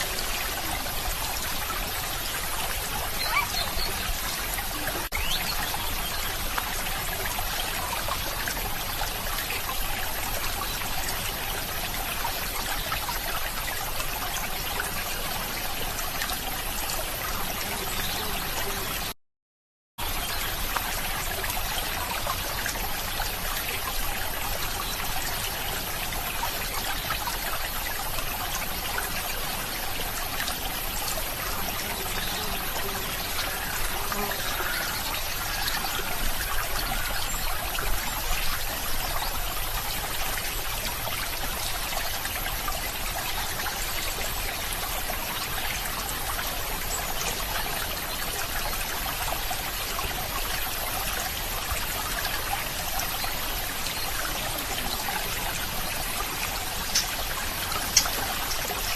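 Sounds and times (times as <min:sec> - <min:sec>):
stream trickling and flowing: 0:00.0 - 0:19.2, 0:20.0 - 0:58.9.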